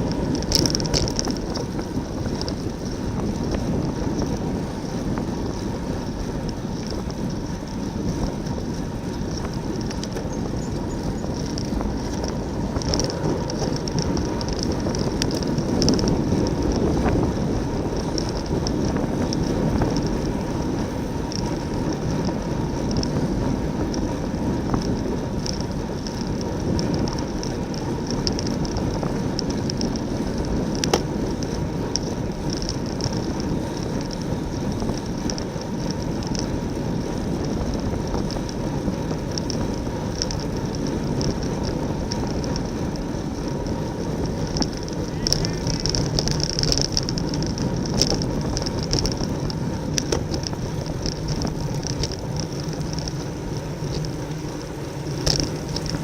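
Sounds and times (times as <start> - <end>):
bicycle road noise: 0.0 - 56.0.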